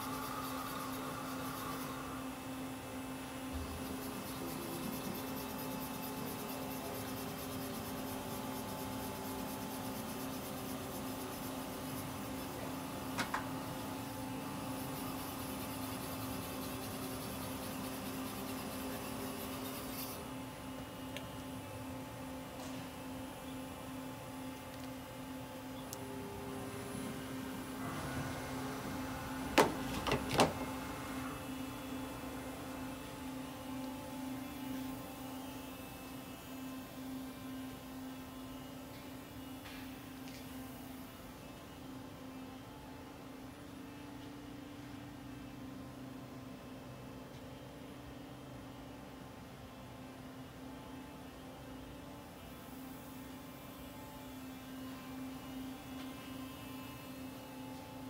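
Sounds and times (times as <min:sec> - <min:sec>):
machine hum: 0:00.0 - 0:46.8.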